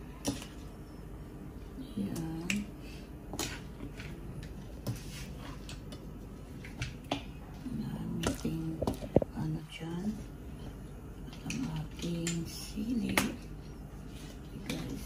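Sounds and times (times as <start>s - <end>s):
low room noise: 0.0s - 15.0s.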